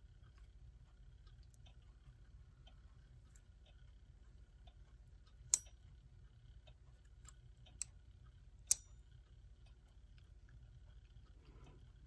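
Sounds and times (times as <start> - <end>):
faint clock ticking: 0.0 - 12.0.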